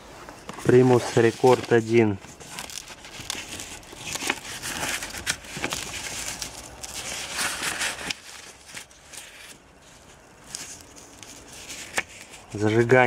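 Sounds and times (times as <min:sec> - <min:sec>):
paper pages rustling and crinkling: 0:00.2 - 0:13.0.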